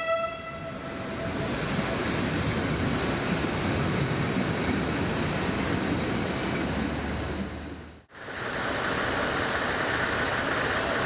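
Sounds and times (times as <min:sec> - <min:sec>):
diesel train rumbling on rails: 0:00.0 - 0:11.0.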